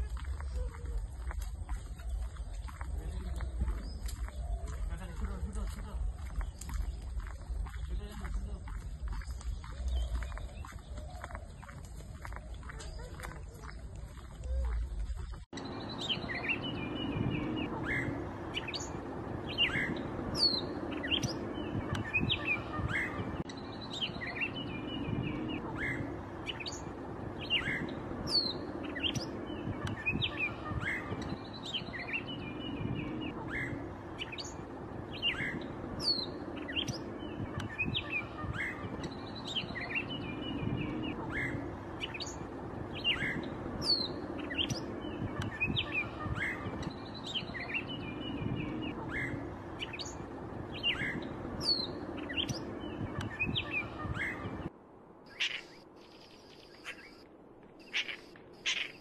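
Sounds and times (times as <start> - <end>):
birds chirping and whistling: 1.4 - 54.7, 55.3 - 57.2, 57.8 - 59.0.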